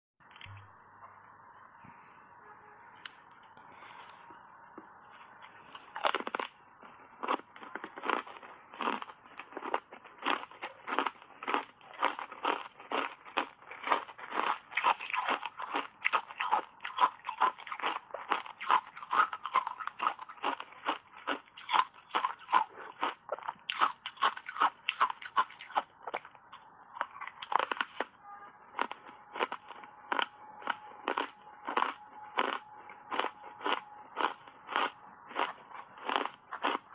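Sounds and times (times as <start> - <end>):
ice chips crunching when chewed: 5.1 - 28.2, 28.8 - 36.9.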